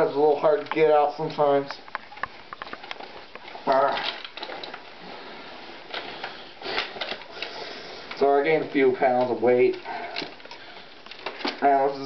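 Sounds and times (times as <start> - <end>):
clothing rustling: 0.0 - 12.0
handling knocks and clicks: 0.2 - 5.0, 5.8 - 11.8.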